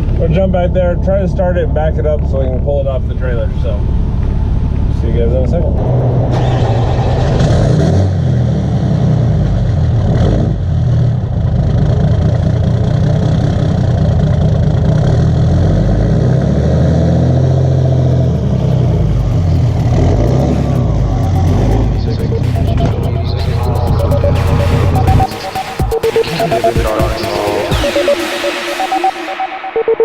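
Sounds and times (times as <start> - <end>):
truck engine running: 0.0 - 28.8.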